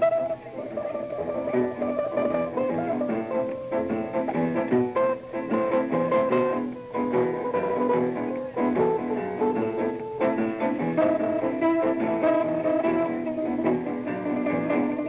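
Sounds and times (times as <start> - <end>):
jazz trio playing: 0.0 - 15.0
plucked guitar notes: 0.0 - 15.0.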